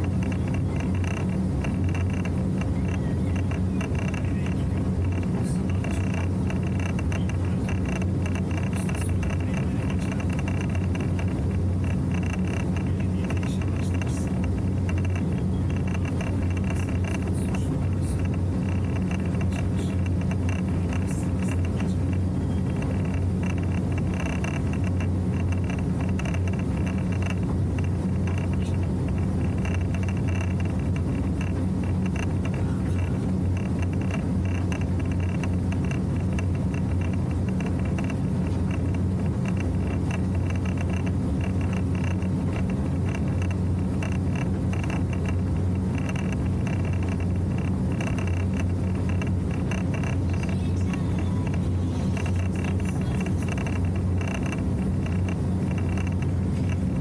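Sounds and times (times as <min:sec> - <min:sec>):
motorboat engine drone: 0:00.0 - 0:57.0.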